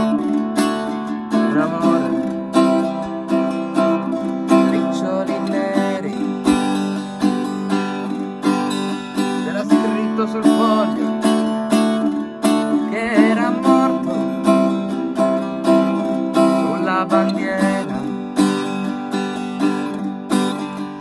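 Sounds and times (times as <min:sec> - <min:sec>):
guitar strummed: 0:00.0 - 0:21.0.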